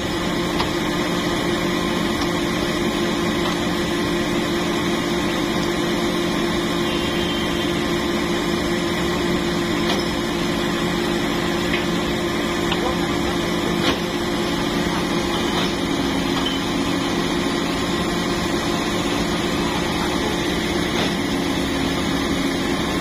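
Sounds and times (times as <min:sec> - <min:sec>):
large vehicle engine idling: 0:00.0 - 0:23.0.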